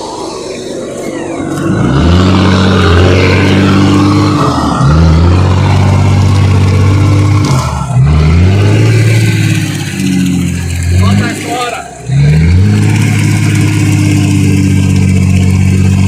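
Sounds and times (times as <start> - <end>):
engine revving hard: 0.0 - 16.0.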